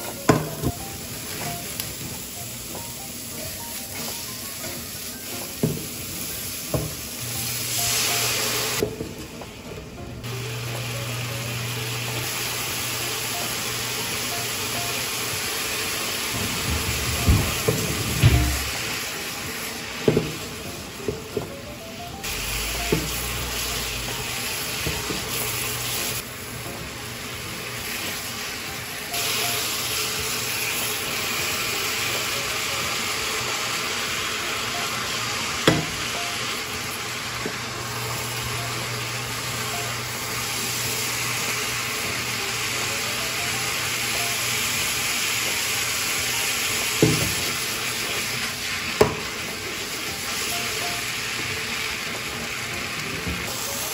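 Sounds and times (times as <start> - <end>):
stir-fry sizzling in pan: 0.0 - 53.9.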